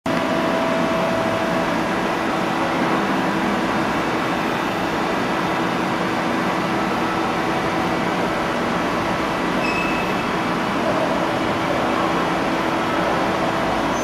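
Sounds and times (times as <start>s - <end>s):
machining center mechanical hum: 0.1s - 14.0s.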